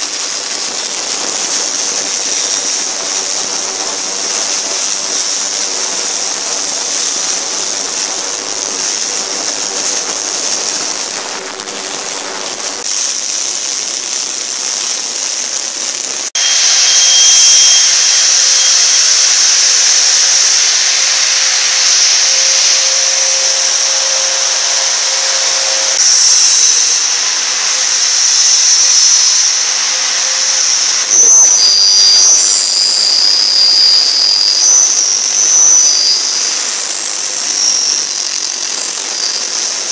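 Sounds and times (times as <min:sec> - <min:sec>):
cleaning machine high-pitched hiss: 0:00.0 - 0:39.9.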